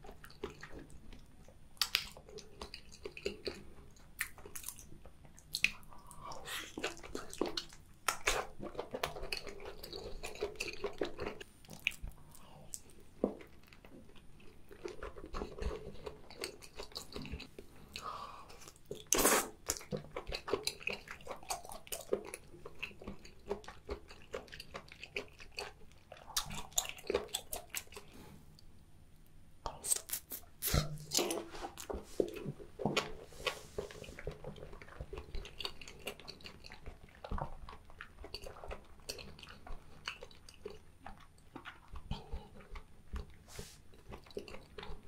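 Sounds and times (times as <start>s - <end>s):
wet chewing and mouth clicks: 0.0s - 45.0s.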